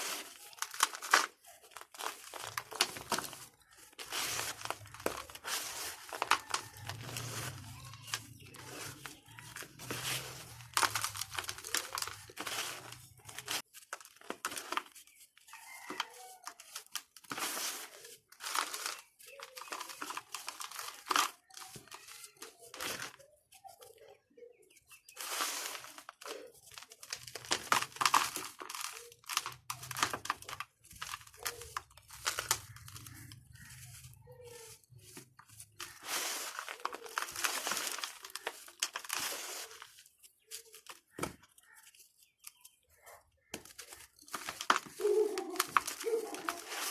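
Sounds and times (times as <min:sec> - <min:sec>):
dirt clods crunching and crumbling: 0:00.0 - 0:46.9.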